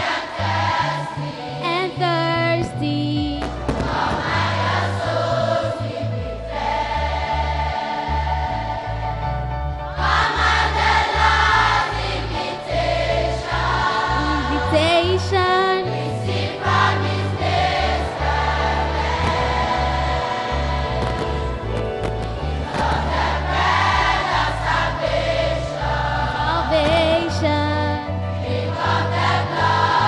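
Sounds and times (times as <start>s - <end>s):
children's choir singing a hymn: 0.0s - 30.0s.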